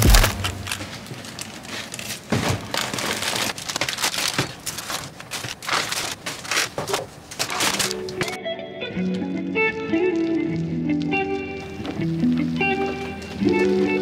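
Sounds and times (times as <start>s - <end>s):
plastic packaging rustling: 0.0s - 8.4s, 9.9s - 14.0s.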